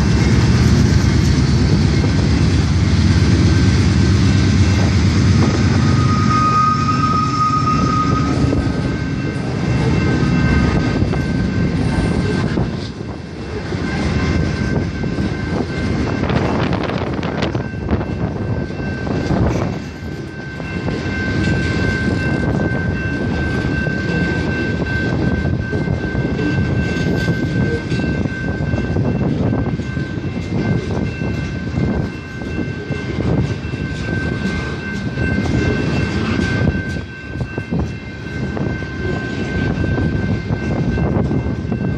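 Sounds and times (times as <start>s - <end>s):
high-pitched tone: 0.0s - 41.9s
train wheels rumbling on rails: 0.0s - 41.9s.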